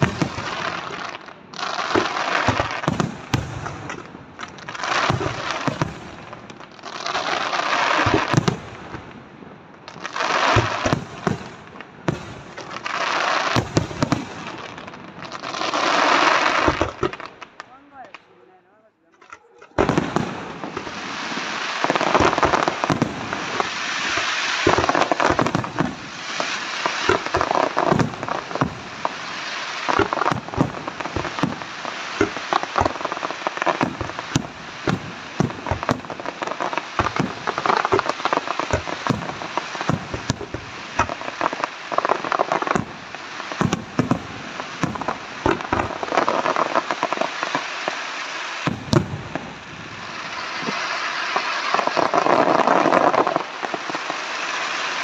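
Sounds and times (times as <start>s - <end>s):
crackling fireworks pops: 0.0s - 18.4s, 19.1s - 55.0s
fireworks bursts and bangs: 0.0s - 18.4s, 19.4s - 55.0s.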